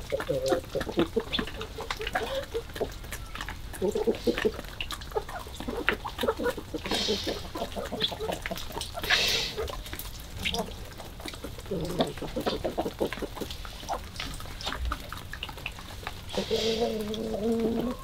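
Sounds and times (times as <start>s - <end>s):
chickens clucking softly: 0.0s - 18.0s.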